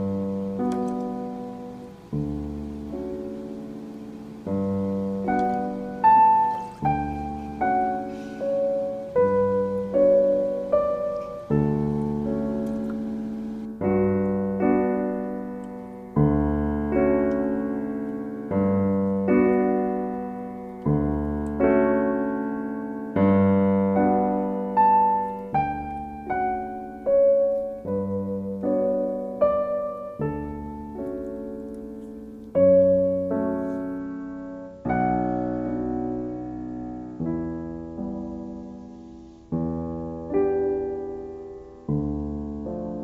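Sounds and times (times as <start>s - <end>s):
slow solo piano piece: 0.0s - 43.0s.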